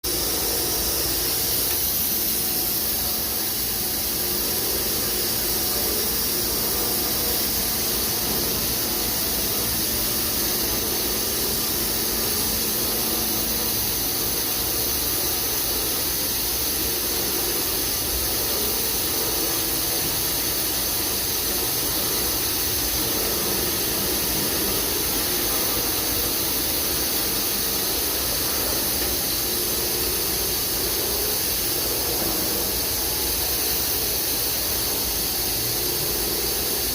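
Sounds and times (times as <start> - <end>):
machine running with hiss: 0.0 - 36.9.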